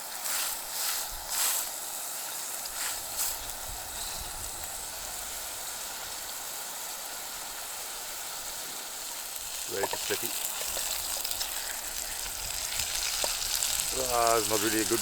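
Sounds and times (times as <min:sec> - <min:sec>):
burger patty sizzling in a pan: 0:00.0 - 0:15.0.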